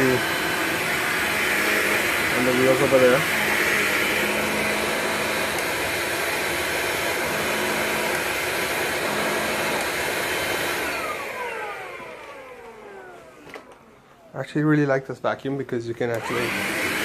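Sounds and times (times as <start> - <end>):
vacuum motor whine: 0.0 - 14.4, 16.1 - 17.0.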